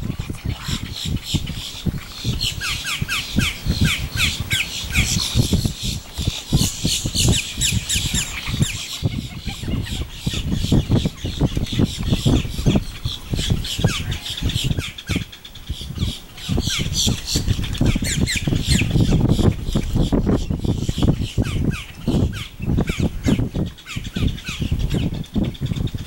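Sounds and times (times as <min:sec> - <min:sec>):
birds squawking and chirping: 0:00.0 - 0:26.0.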